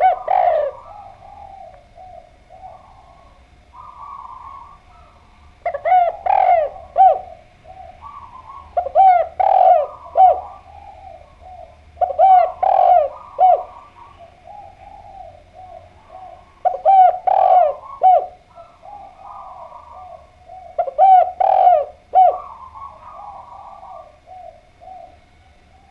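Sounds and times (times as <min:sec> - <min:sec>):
dove cooing: 0:00.0 - 0:25.9.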